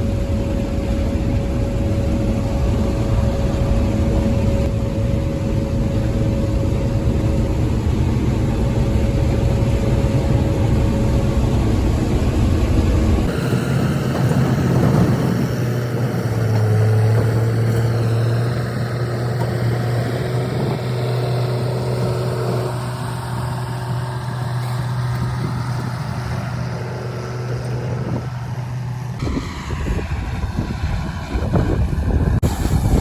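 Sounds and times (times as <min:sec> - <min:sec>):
harvest machinery droning: 0:00.0 - 0:33.0.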